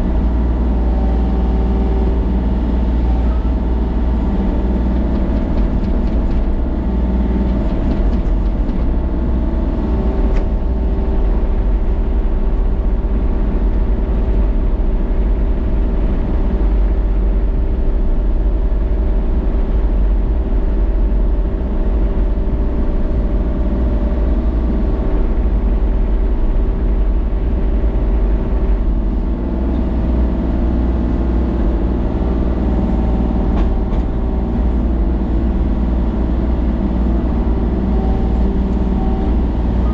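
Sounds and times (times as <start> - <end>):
engine running with low rumble: 0.0 - 39.9.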